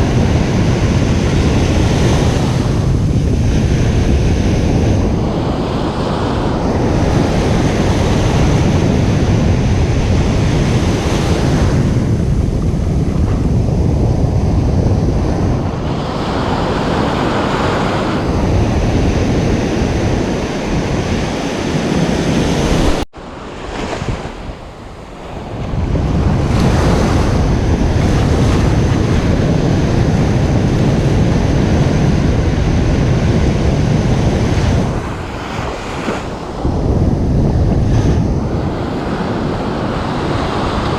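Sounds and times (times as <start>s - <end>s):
ocean waves breaking: 0.0s - 40.9s
wind rumbling on microphone: 0.0s - 40.9s.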